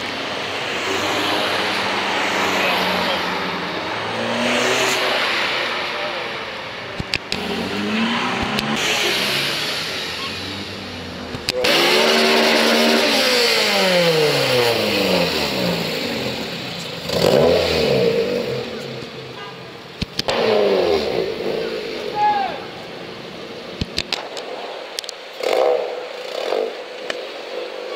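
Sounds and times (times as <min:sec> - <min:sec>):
car engines revving: 0:00.0 - 0:27.9.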